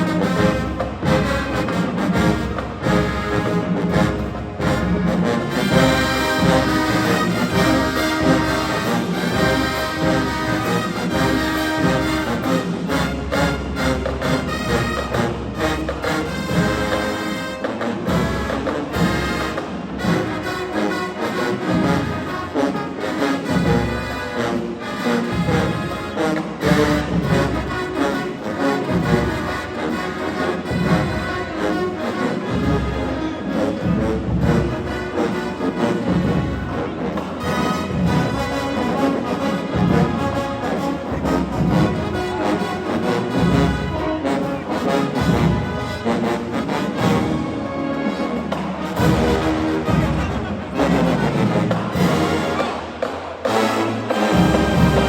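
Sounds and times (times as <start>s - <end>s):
drumline with bass drum: 0.0s - 55.0s
marching band playing: 0.0s - 55.0s.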